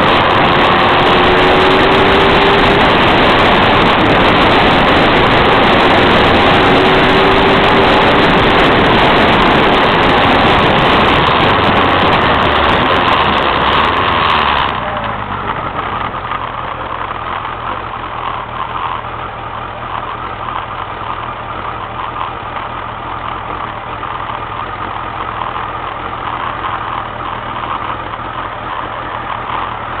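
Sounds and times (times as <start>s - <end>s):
car engine idling: 0.0s - 30.0s
road and tyre noise: 0.0s - 30.0s.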